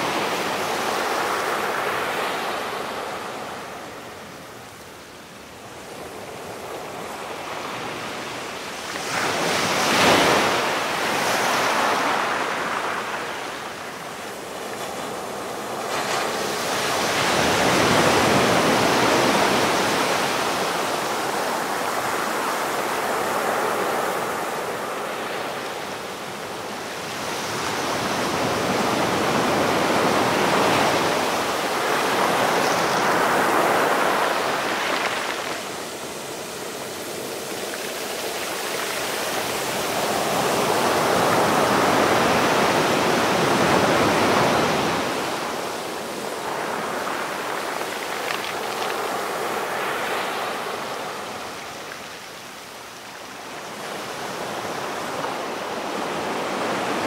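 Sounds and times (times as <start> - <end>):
waves breaking on shore: 0.0 - 57.0.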